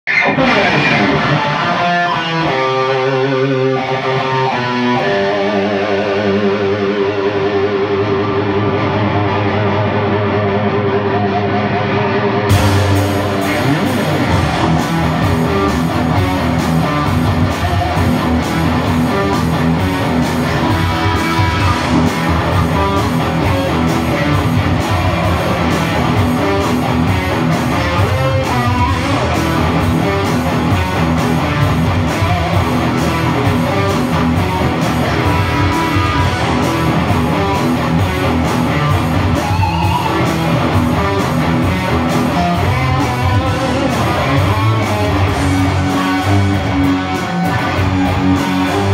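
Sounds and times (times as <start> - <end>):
electric guitar played with a pick: 0.1 - 48.9.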